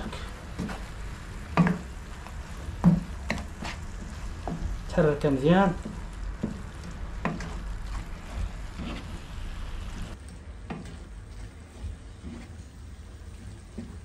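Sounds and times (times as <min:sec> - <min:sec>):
spatula scraping pan: 0:00.0 - 0:05.0, 0:05.7 - 0:14.0
food frying hiss: 0:00.0 - 0:14.0.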